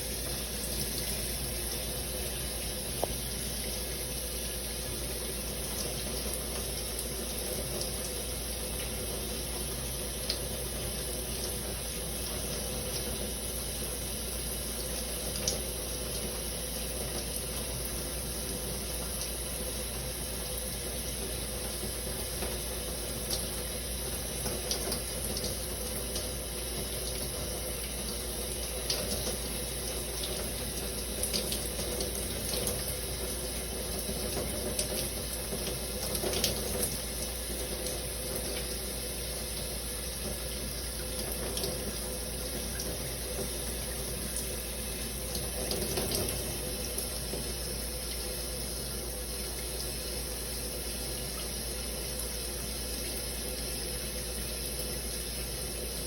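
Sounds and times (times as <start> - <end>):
shower water spraying: 0.0 - 56.0.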